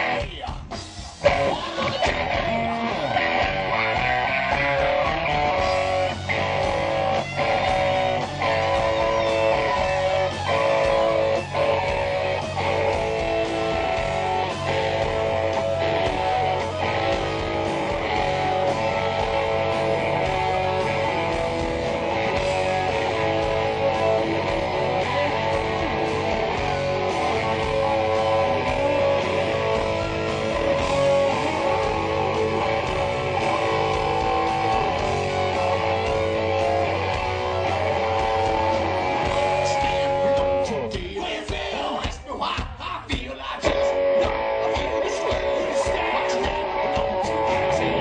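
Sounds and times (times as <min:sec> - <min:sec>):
electric guitars: 0:00.0 - 0:42.7, 0:43.4 - 0:48.0
drums: 0:00.0 - 0:48.0.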